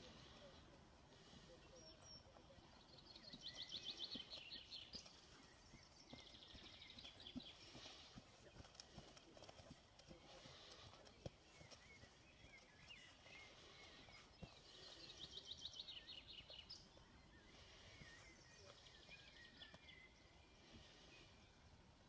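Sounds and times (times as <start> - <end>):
songbird chirping: 0.0 - 22.0.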